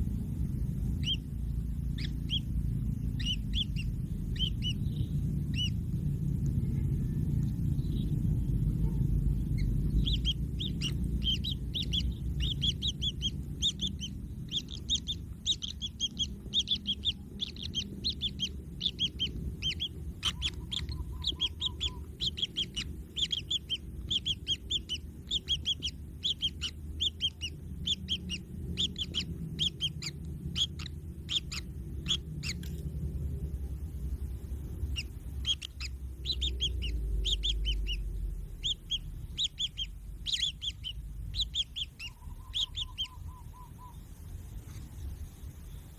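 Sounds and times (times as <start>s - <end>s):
chicks chirping: 0.0s - 33.8s, 34.6s - 44.0s
low rumble: 0.0s - 45.9s.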